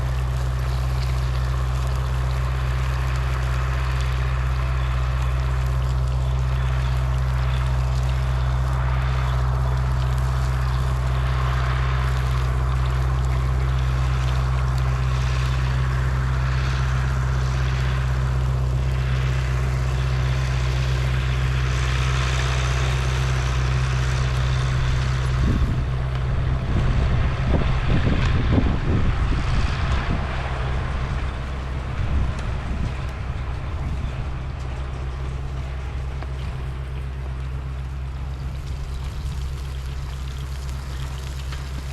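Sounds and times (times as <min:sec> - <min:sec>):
low thumps and rumbles: 0:00.0 - 0:41.9
noisy rush: 0:00.0 - 0:41.9
vehicle engine droning: 0:00.0 - 0:41.9.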